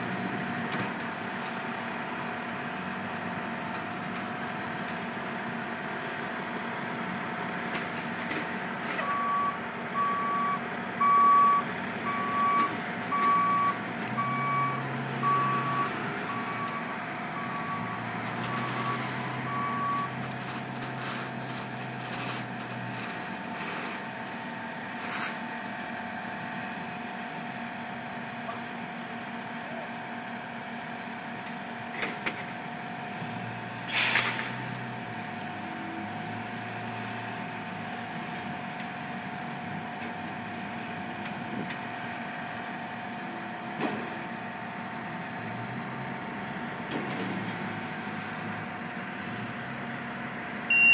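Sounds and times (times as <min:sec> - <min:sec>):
heavy paving machinery running: 0:00.0 - 0:50.9.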